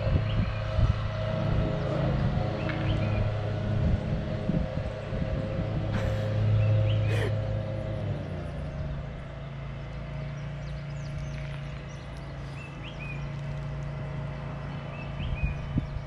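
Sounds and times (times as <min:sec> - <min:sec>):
low engine-like hum: 0:00.0 - 0:16.0.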